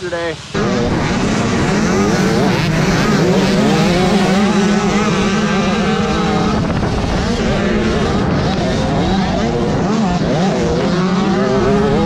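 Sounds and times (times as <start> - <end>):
dirt bikes revving: 0.0 - 12.0.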